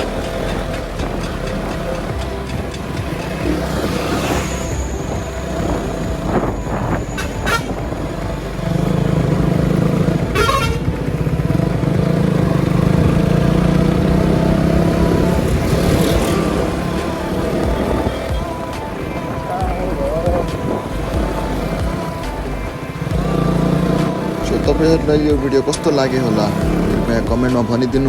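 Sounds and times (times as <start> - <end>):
heavy vehicle low drone: 0.0 - 28.0
road traffic: 0.0 - 28.0
vehicle horn tooting: 0.0 - 28.0.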